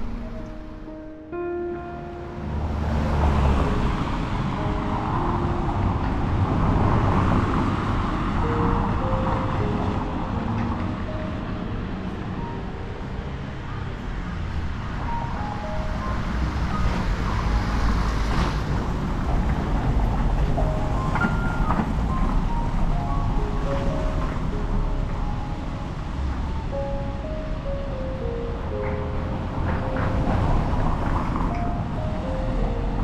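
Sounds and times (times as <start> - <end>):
street traffic noise: 0.0 - 33.0
vehicle approaching: 0.0 - 33.0.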